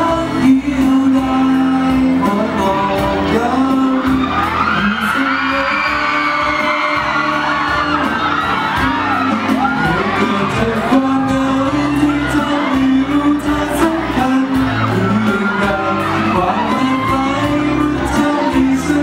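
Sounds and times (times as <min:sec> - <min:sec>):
man singing into microphone: 0:00.0 - 0:19.0
pop backing track: 0:00.0 - 0:19.0
audience whooping and screaming: 0:01.1 - 0:19.0.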